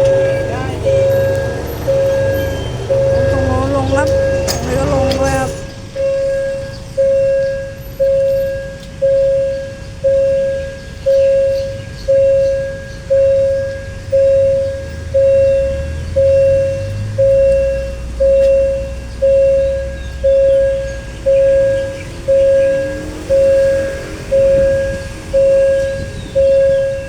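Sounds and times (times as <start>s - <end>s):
diesel locomotive engine rumbling: 0.0s - 27.0s
warning bell ringing: 0.0s - 27.0s.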